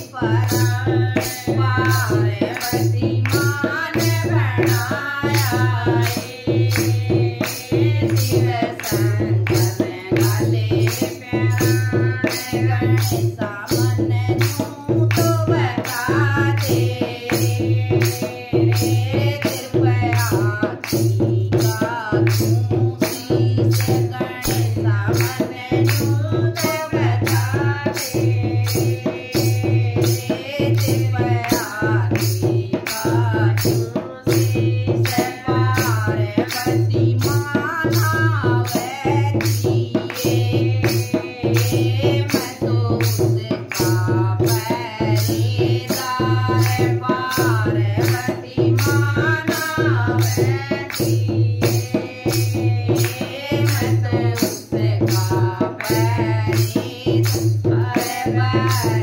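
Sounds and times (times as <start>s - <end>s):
steady drum beat: 0.0s - 59.0s
woman singing: 0.0s - 59.0s.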